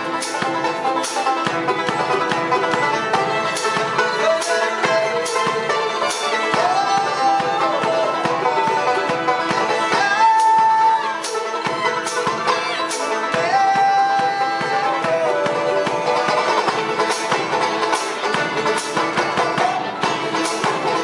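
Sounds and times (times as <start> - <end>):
bluegrass string trio playing: 0.0 - 21.0
fiddle sliding long notes: 0.0 - 21.0
plucked banjo and mandolin notes: 0.0 - 21.0.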